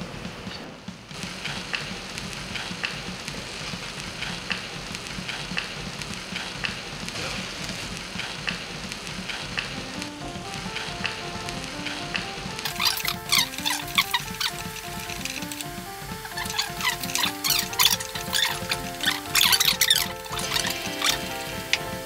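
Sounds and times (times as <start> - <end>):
food sizzling in a frying pan: 1.2 - 22.0.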